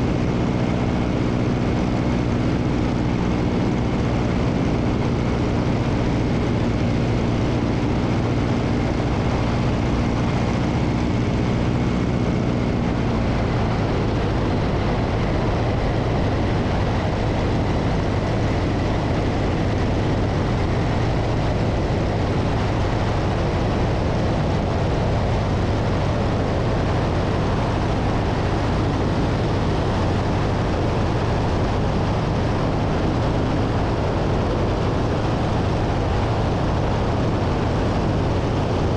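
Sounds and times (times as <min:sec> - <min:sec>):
air rushing over wing: 0:00.0 - 0:38.9
propeller plane engine droning: 0:00.0 - 0:38.9.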